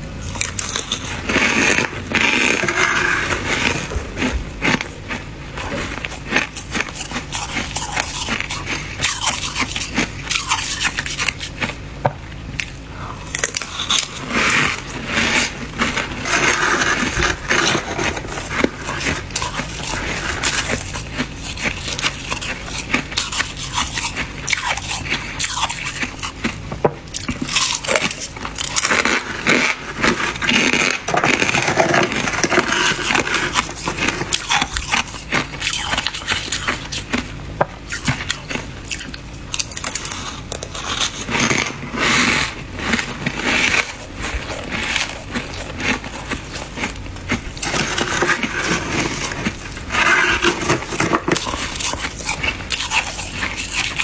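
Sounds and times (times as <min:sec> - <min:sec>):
freezer frost being scraped: 0:00.0 - 0:11.8, 0:13.2 - 0:54.0.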